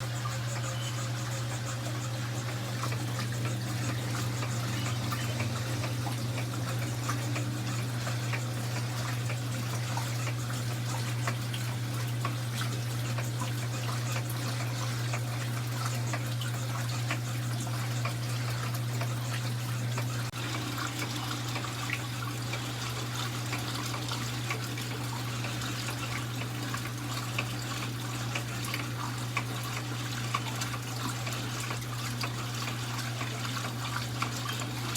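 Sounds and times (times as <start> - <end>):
washing machine motor hum: 0.0 - 34.9
water sloshing in tub: 0.0 - 34.9.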